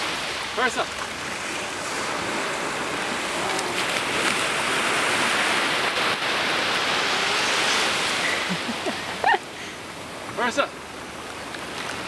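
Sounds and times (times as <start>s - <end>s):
surf breaking on beach: 0.0s - 10.3s.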